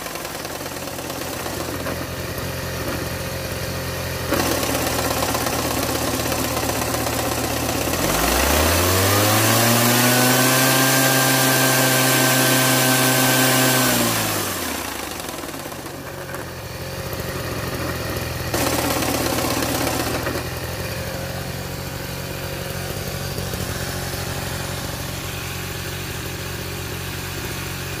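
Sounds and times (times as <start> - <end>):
hedge trimmer engine revving: 0.0 - 28.0.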